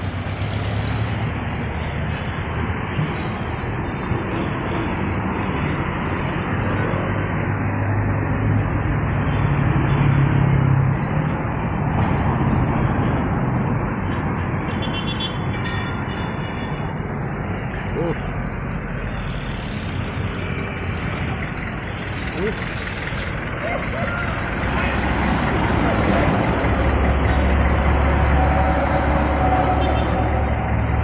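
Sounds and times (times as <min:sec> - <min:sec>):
heavy vehicle engine hum: 0:00.0 - 0:31.0
road traffic passing: 0:00.0 - 0:31.0.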